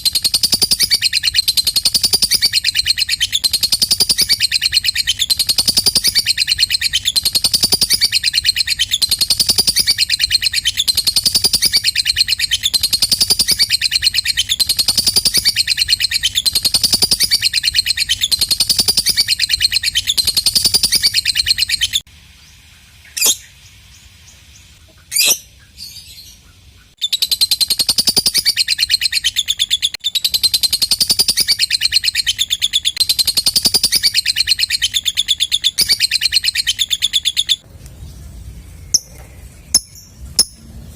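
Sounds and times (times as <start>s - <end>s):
lovebird chattering: 0.0s - 22.1s, 24.5s - 37.7s, 38.7s - 40.6s.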